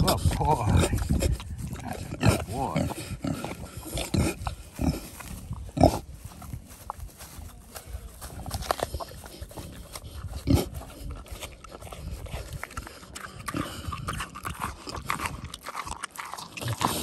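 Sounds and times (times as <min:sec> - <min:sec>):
boar chewing an apple: 0:00.0 - 0:17.0.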